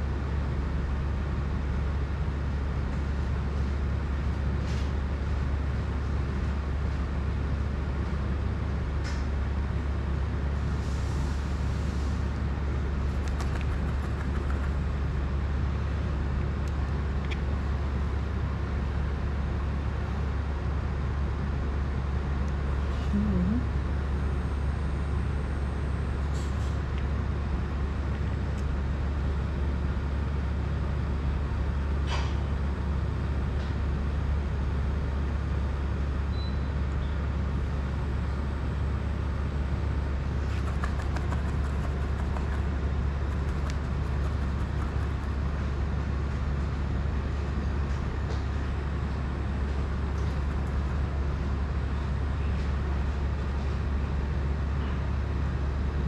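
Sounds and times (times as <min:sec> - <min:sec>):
fan or motor humming: 0:00.0 - 0:56.0.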